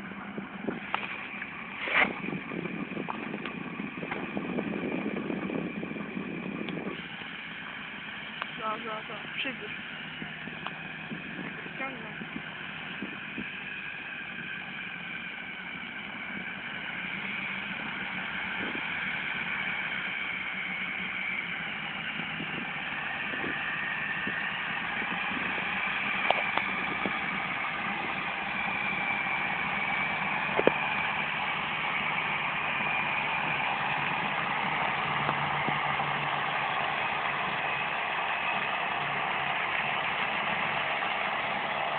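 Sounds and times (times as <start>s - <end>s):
tractor diesel engines under load: 0.0s - 41.9s.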